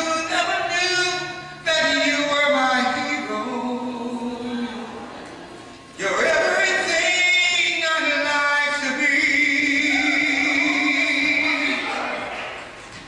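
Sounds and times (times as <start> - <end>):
man singing into a microphone: 0.0 - 5.0, 6.0 - 12.2.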